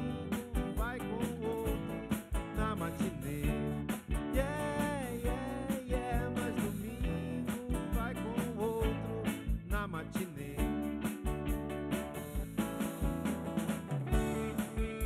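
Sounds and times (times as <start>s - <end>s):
kick drum beat: 0.0s - 1.0s, 1.7s - 6.4s, 7.0s - 10.0s, 10.6s - 15.0s
guitar lead melody bending: 0.0s - 15.0s
live band playing: 0.0s - 15.0s.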